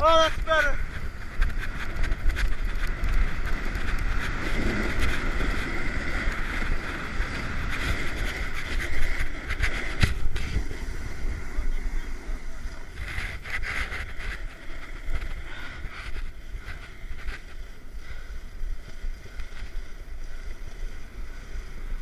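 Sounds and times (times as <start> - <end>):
skis scraping over packed snow: 0.0 - 22.0
wind rumbling on microphone: 0.0 - 22.0.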